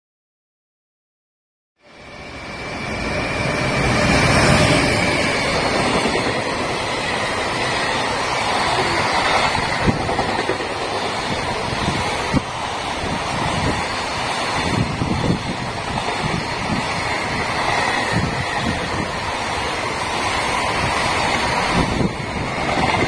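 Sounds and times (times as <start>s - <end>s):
freight train passing: 1.8s - 23.0s.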